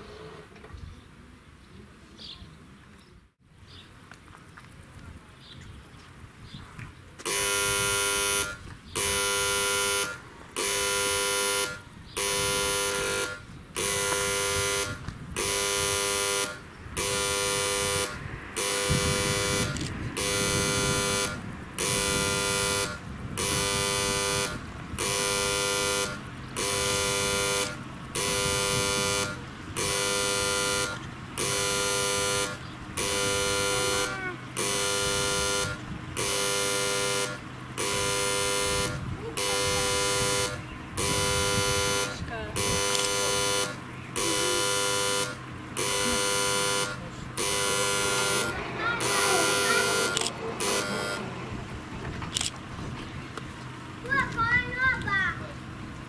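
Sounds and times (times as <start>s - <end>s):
level crossing warning buzzer: 7.2s - 52.8s.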